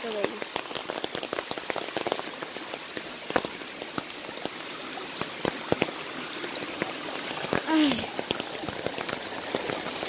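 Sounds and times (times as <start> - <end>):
heavy raindrops ticking: 0.0 - 10.0
rain falling: 0.0 - 10.0.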